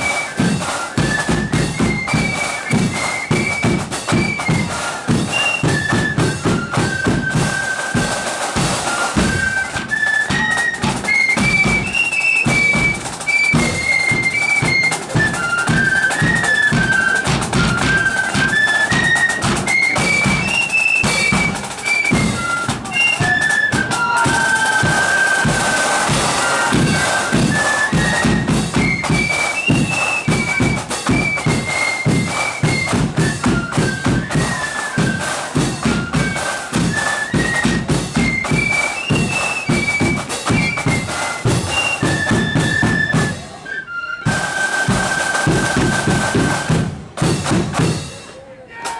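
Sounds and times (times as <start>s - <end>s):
drums beating time: 0.0s - 43.6s, 44.2s - 48.9s
flutes playing in unison: 0.0s - 48.9s.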